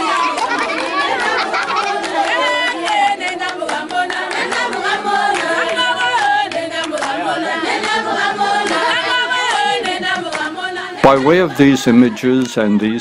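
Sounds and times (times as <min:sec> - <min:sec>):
hand claps: 0:00.0 - 0:10.6
women singing together: 0:00.0 - 0:13.0.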